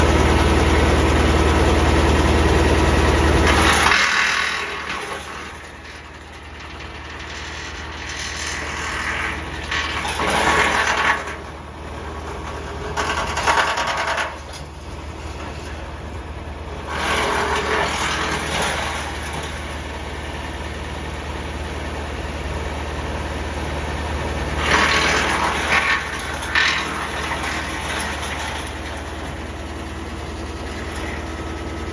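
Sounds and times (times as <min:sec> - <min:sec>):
chipper chipping branches: 0:00.0 - 0:31.9
tractor engine humming: 0:00.0 - 0:31.9.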